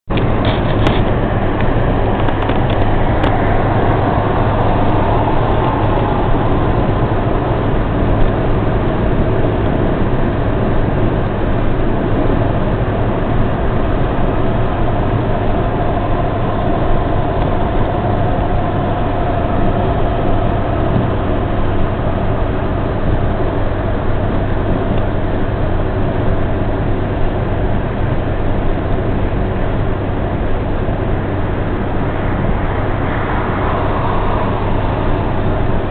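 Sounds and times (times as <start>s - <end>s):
faint whine: 0.1s - 35.9s
road vehicle noise humming: 0.1s - 35.9s.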